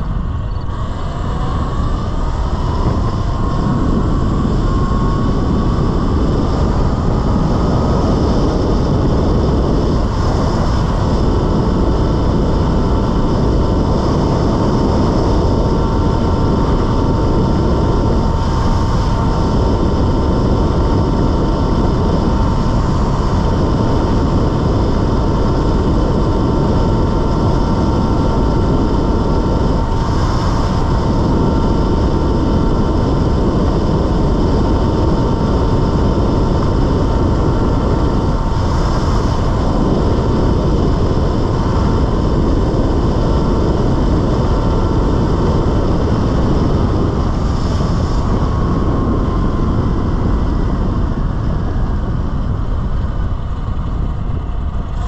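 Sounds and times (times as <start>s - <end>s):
electric motor whine: 0.0s - 55.0s
wind rush on microphone: 0.0s - 55.0s.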